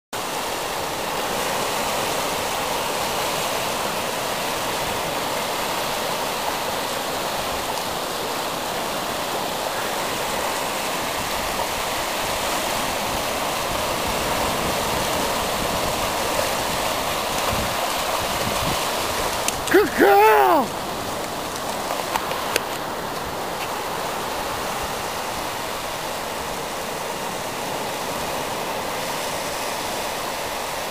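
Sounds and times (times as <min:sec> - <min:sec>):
small ocean waves breaking: 0:00.2 - 0:30.9.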